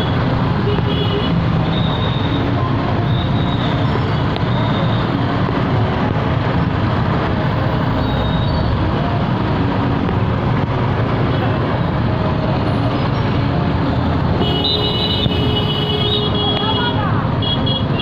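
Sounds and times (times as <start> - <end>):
surrounding traffic: 0.0 - 18.0
vehicle engine and road noise: 0.0 - 18.0.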